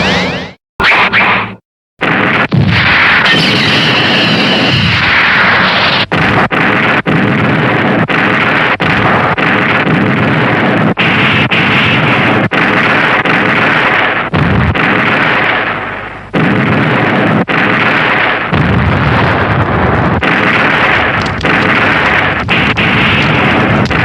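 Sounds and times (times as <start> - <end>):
explosion sound effects: 0.0 - 24.0.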